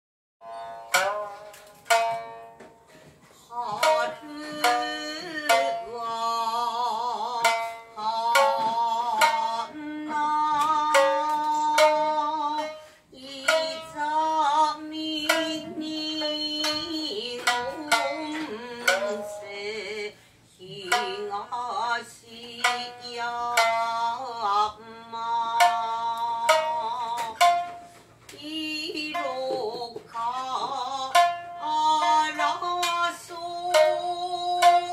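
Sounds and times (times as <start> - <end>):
shamisen plucked: 0.4 - 34.9
woman singing: 3.4 - 27.7, 28.3 - 34.9.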